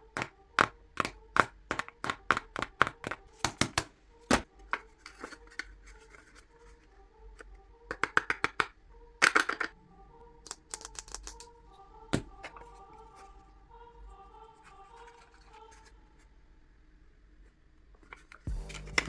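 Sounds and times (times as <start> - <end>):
soft background music: 0.0 - 16.8, 17.4 - 19.0.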